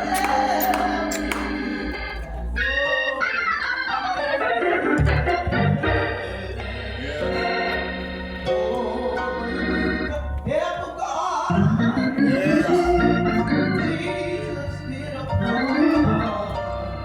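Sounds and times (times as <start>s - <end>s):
church organ playing chords: 0.0s - 17.0s.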